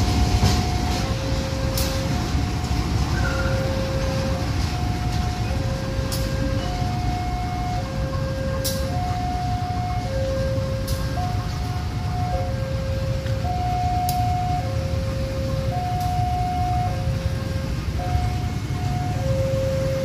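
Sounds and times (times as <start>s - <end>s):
diesel locomotive rumble: 0.0s - 20.0s
two-tone crossing alarm: 0.0s - 20.0s.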